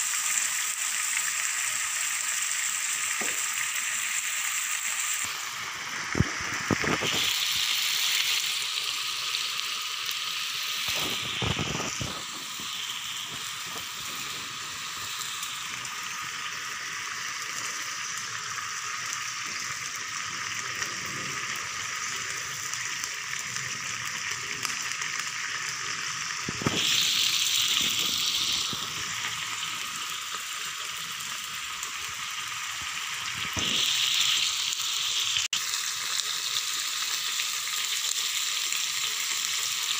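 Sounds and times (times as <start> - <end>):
marinade bubbling and sizzling: 0.0 - 39.9.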